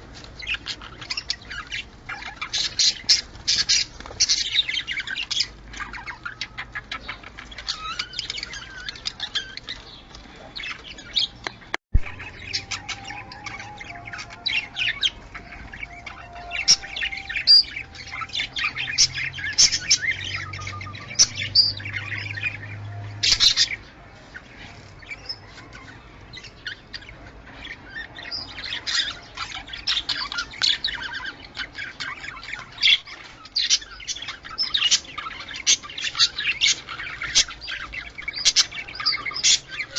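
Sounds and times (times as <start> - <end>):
budgerigars chattering: 0.3 - 39.9.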